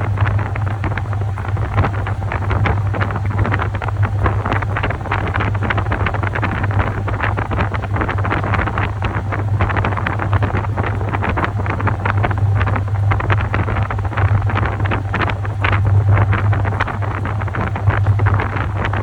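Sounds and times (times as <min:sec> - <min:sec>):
washing machine motor hum: 0:00.0 - 0:19.0
water and laundry swishing: 0:00.0 - 0:19.0.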